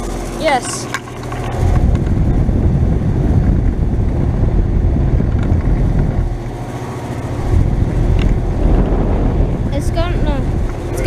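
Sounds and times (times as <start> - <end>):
heat pump fan and compressor running: 0.0 - 11.0.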